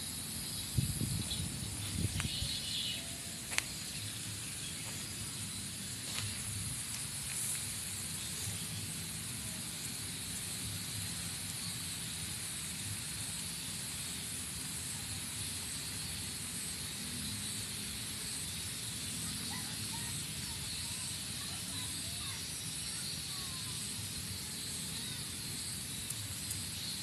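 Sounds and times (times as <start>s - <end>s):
high hiss: 0.0s - 27.0s.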